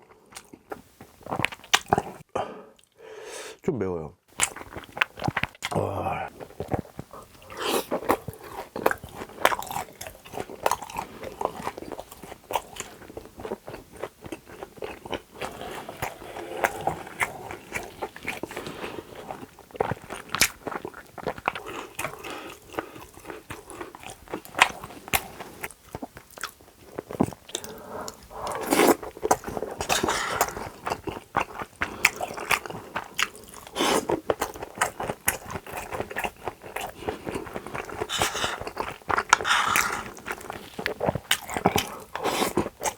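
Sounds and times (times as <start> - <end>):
wet chewing and mouth smacks: 0.1 - 3.0, 4.3 - 42.9.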